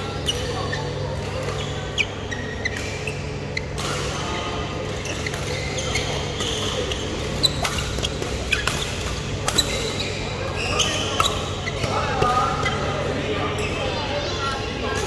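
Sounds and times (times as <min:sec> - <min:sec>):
low hum of hall: 0:00.0 - 0:15.0
shoes squeaking on court floor: 0:00.0 - 0:15.0.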